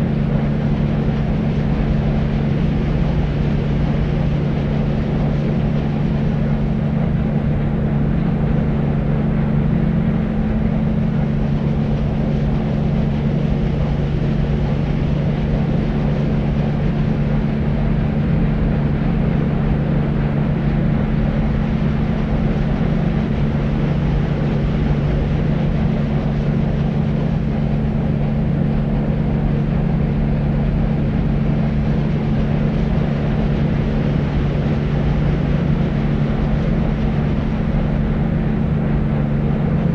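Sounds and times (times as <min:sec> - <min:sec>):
deep rumbling white noise: 0:00.0 - 0:39.9
steady low hum: 0:00.0 - 0:39.9.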